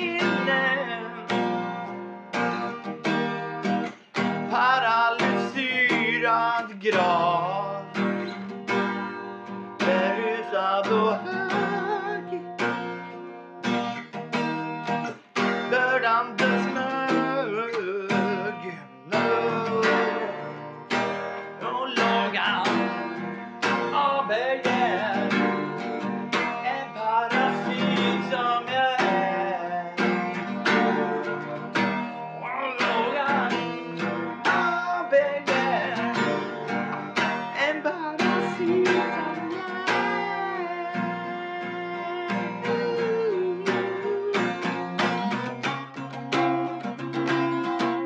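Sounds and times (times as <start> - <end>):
gliding guitar melody: 0.0 - 48.0
guitar strummed chords: 0.0 - 48.0.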